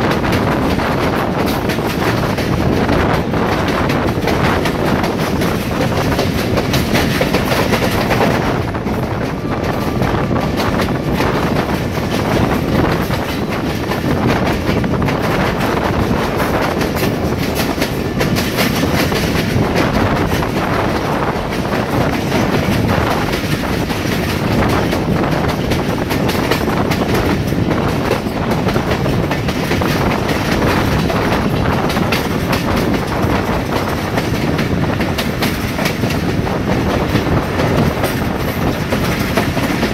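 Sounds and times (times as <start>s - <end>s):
train coaches rattling: 0.0s - 39.9s
train wheels clattering over rail joints: 0.0s - 39.9s.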